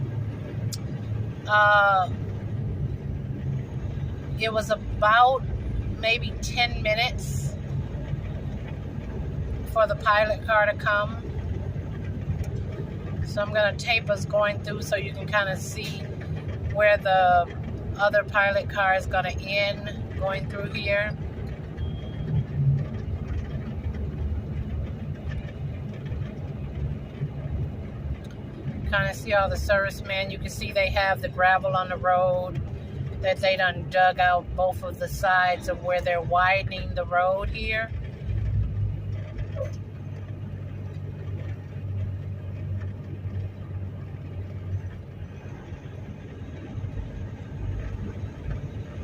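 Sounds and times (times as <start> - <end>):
engine and tyre rumble in cabin: 0.0 - 49.0.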